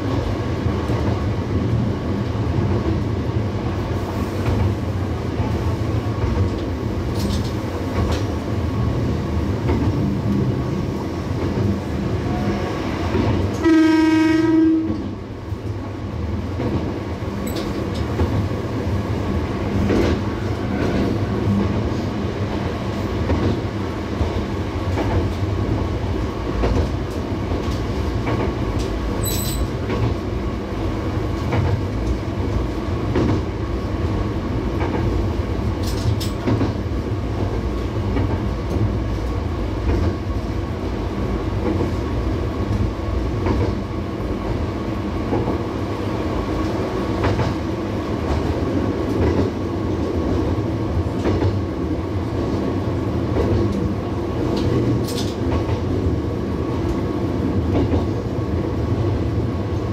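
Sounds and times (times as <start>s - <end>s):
railcar engine and wheel rumble: 0.0s - 59.9s.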